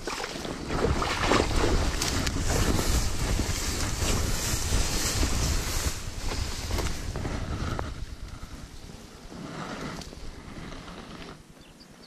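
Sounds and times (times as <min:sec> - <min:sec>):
rough rustling: 0:00.0 - 0:12.0
wind rumbling on microphone: 0:00.0 - 0:12.0.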